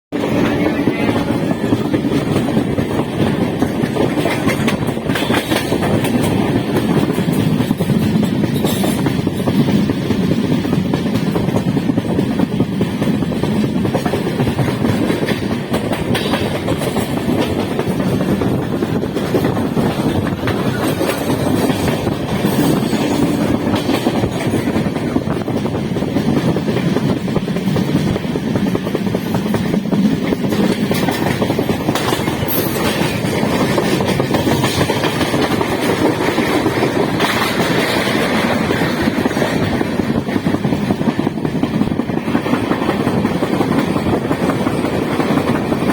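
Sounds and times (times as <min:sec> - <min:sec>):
train wheels rumbling on rails: 0:00.1 - 0:45.9.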